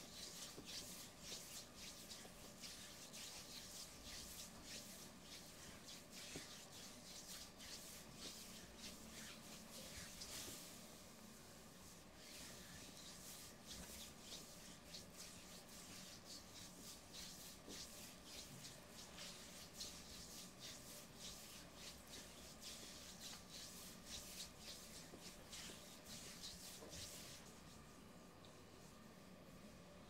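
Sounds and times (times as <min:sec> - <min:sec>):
palms swishing over skin: 0:00.0 - 0:28.0.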